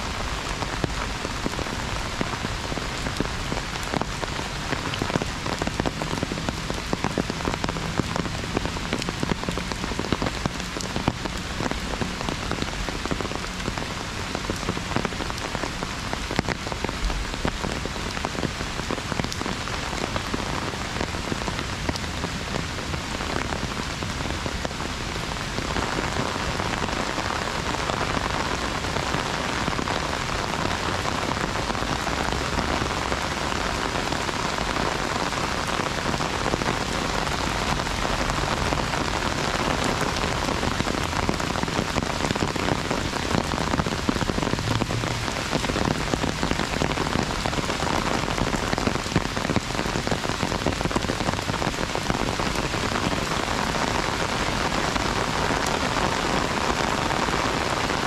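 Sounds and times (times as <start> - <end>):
heavy rain on an umbrella: 0.0 - 58.0.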